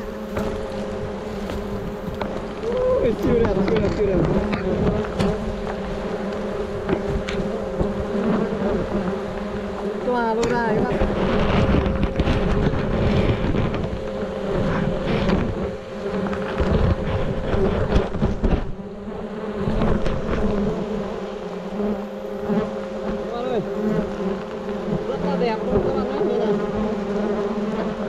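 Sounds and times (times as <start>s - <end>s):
single bees whining past: 0.0s - 28.0s
swarm of bees buzzing: 0.0s - 28.0s.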